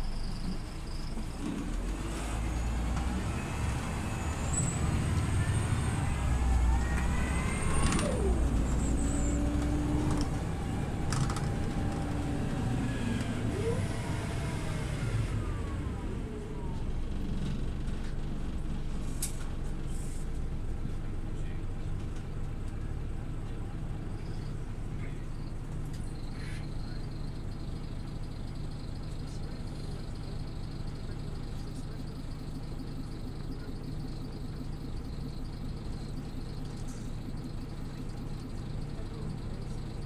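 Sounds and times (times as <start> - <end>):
bus engine accelerating: 0.0 - 40.0.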